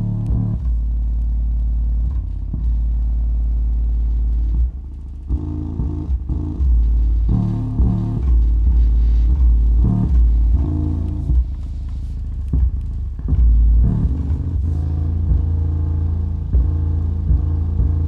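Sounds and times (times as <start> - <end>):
bass-heavy music from subwoofer: 0.0 - 18.0.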